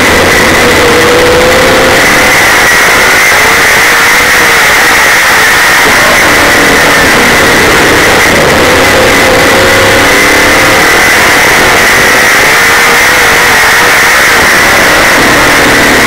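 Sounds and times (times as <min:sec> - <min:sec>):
race car engine running hard: 0:00.0 - 0:16.0
wind and track noise: 0:00.0 - 0:16.0.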